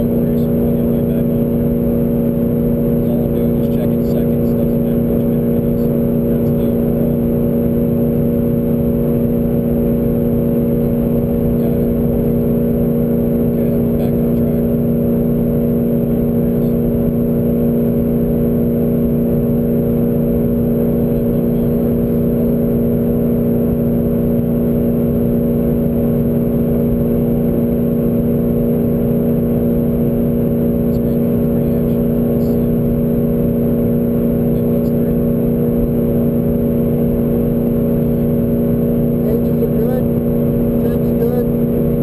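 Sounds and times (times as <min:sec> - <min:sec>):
car engine droning: 0:00.0 - 0:42.0
road and wind rumble: 0:00.0 - 0:42.0.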